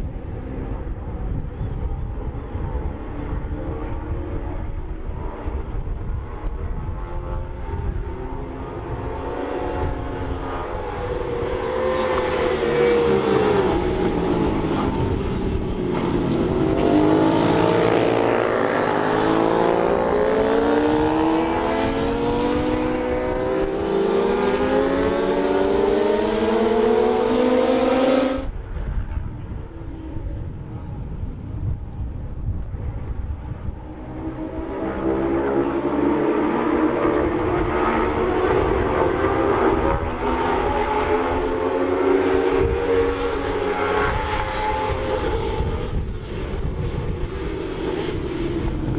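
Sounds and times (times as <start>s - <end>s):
racing motorcycles accelerating: 0.1s - 28.6s, 32.7s - 48.9s.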